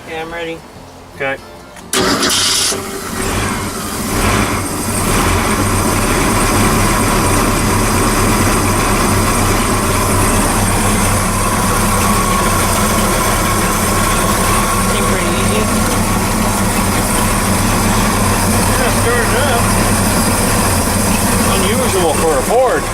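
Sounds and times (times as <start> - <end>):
boat engine idling: 1.9 - 22.9.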